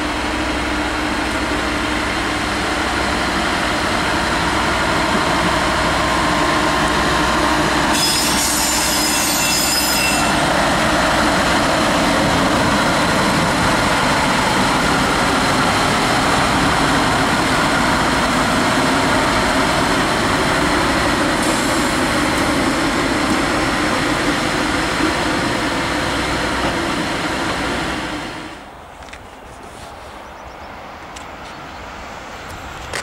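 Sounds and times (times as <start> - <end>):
rail vehicle engine running: 0.0 - 33.0.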